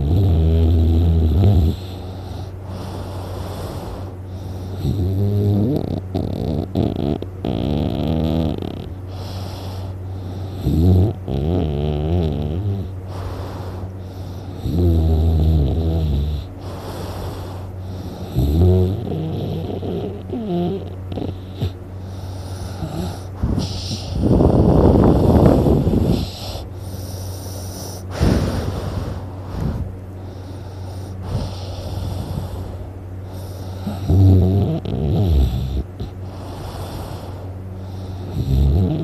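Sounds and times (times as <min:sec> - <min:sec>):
person snoring loudly: 0:00.0 - 0:39.0
quiet breathing: 0:00.8 - 0:05.2, 0:08.6 - 0:11.3, 0:12.5 - 0:14.9, 0:15.6 - 0:39.0.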